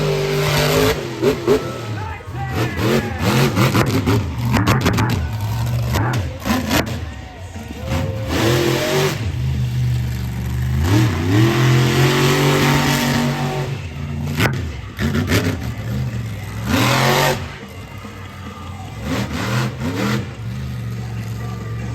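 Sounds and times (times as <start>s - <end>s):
truck engine revving: 0.0s - 21.9s.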